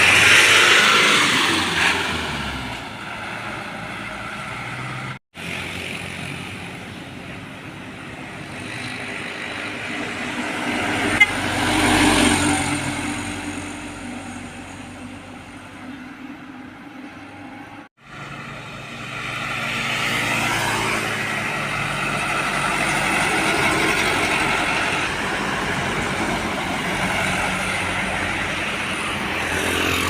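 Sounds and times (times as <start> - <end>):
heavy trucks passing: 0.0 - 30.0.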